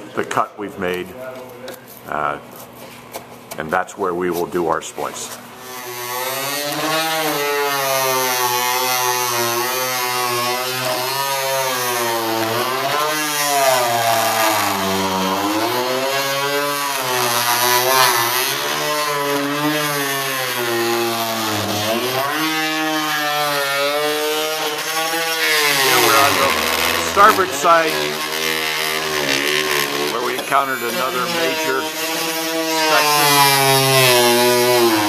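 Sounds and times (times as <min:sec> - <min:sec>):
multi-tool buzzing through wood: 0:03.7 - 0:35.0.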